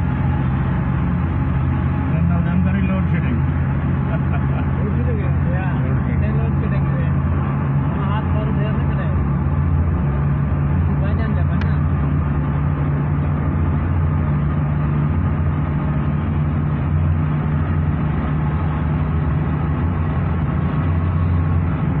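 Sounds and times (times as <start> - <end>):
road noise rush: 0.0 - 22.0
vehicle engine droning: 0.0 - 22.0.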